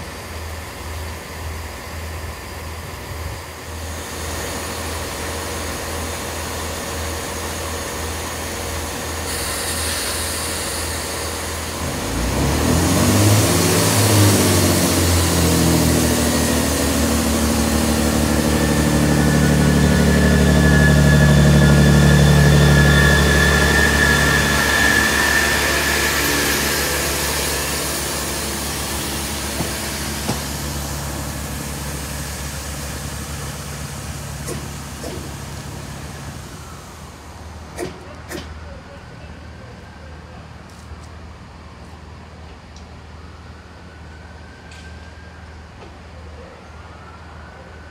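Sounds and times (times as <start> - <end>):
diesel train engine drone: 0.0 - 47.9.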